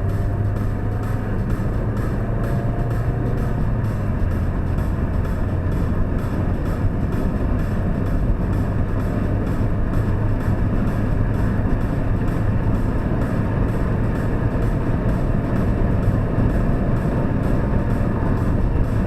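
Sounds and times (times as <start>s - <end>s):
car engine running steadily: 0.0s - 19.0s
road noise: 0.0s - 19.0s.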